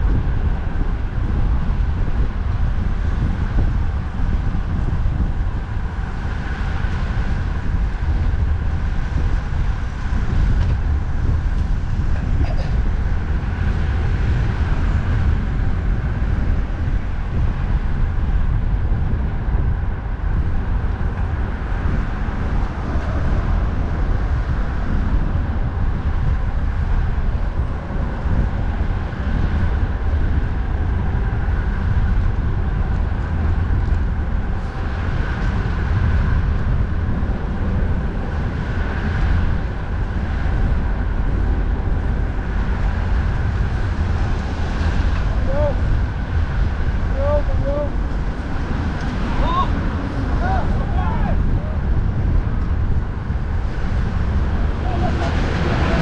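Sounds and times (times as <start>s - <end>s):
road and traffic noise: 0.0s - 56.0s
wind buffeting microphone: 0.0s - 56.0s.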